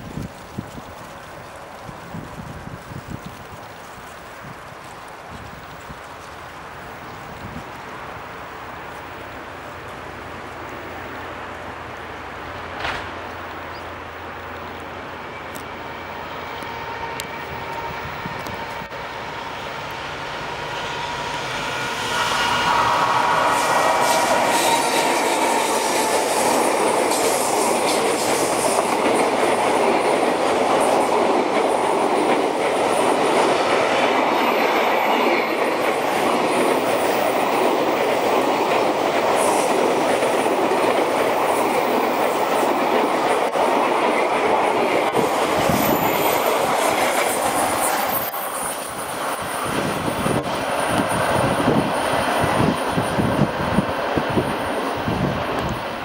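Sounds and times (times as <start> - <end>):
wheels clacking over rail joints: 0.0 - 13.9, 19.8 - 56.0
train wheels rumbling on rails: 0.0 - 56.0.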